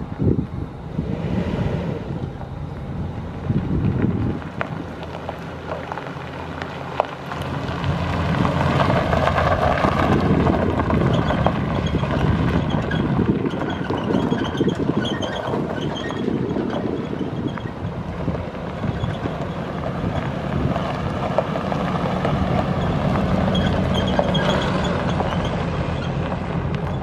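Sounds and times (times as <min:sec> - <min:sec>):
wind buffeting microphone: 0:00.0 - 0:06.3, 0:07.2 - 0:27.0
truck engine running: 0:00.0 - 0:27.0.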